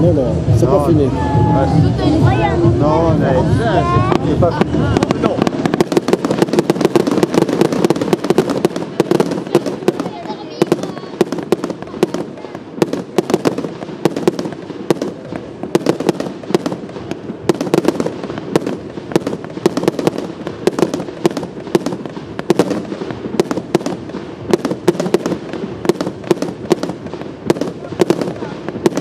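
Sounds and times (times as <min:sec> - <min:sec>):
fireworks bangs and pops: 0:00.0 - 0:29.0.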